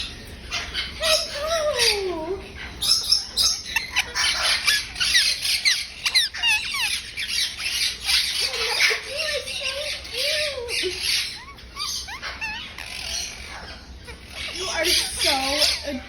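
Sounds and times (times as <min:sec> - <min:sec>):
parakeet calling: 0:00.0 - 0:16.0
parakeet squawking: 0:00.0 - 0:16.0.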